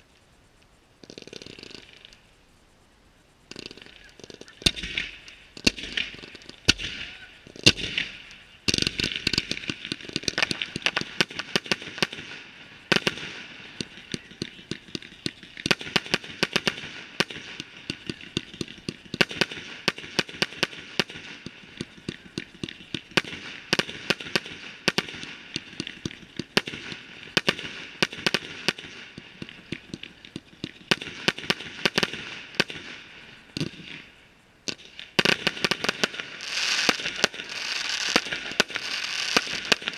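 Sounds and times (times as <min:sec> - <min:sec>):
fireworks bangs and crackles: 0:00.9 - 0:02.3, 0:03.4 - 0:39.9
loud firework reports: 0:03.5 - 0:39.9.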